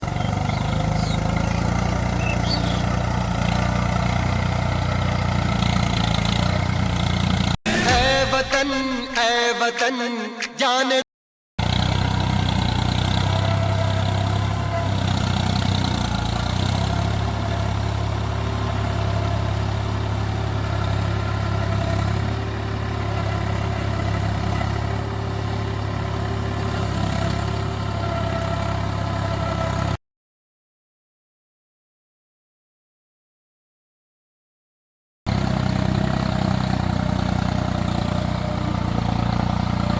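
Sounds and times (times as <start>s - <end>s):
tractor engine running: 0.0s - 9.3s, 11.6s - 30.0s, 35.3s - 39.9s.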